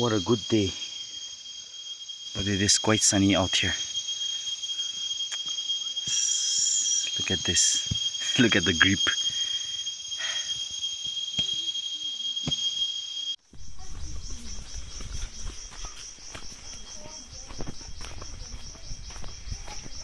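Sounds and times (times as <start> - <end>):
high-pitched insect chorus: 0.0 - 20.0
pulsing insect chorus: 0.0 - 20.0.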